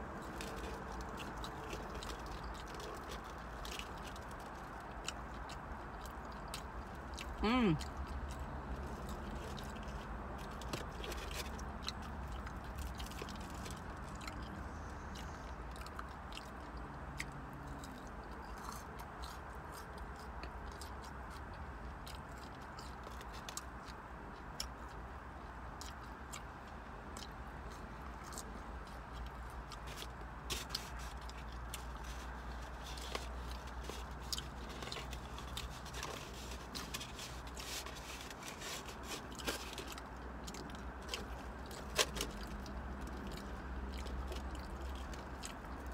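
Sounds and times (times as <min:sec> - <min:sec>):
chewing and biting food: 0:00.0 - 0:45.9
mouth clicks and crunches: 0:00.0 - 0:45.9.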